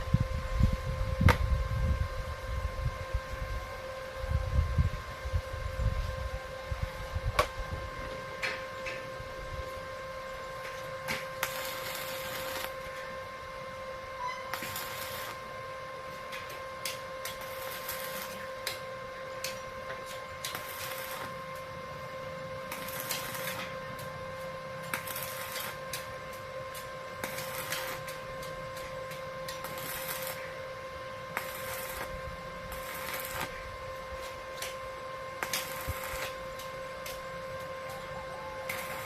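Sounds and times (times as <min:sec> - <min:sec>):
steady electrical hum: 0:00.0 - 0:39.0
electric arc welding crackling: 0:06.8 - 0:39.0.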